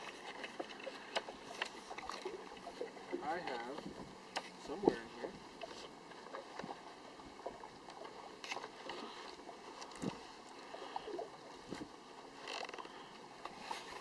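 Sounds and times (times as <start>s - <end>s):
waves lapping against boat hull: 0.0s - 14.0s.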